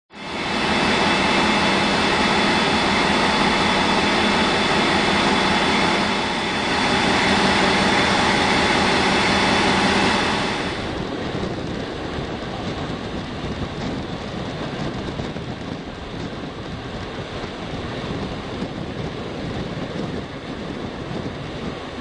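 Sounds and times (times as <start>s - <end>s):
diesel locomotive idling: 0.1s - 19.4s
constant high whine: 0.1s - 22.0s.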